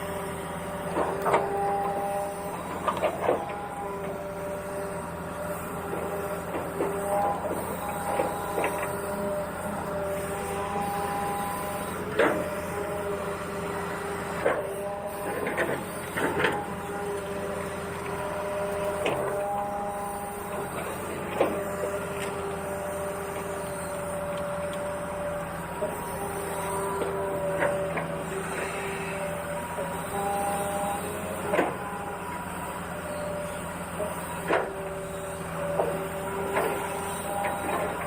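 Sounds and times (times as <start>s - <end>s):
small electric motors whining: 0.0s - 38.0s.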